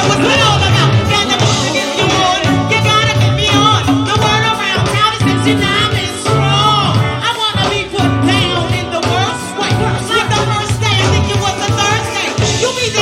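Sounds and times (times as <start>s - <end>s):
live band bass and percussion: 0.0s - 13.0s
person singing: 0.0s - 13.0s.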